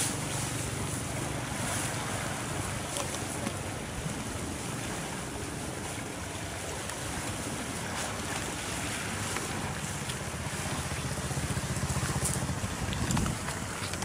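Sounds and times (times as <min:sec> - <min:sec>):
rushing floodwater: 0:00.0 - 0:14.0
wind buffeting microphone: 0:00.0 - 0:14.0.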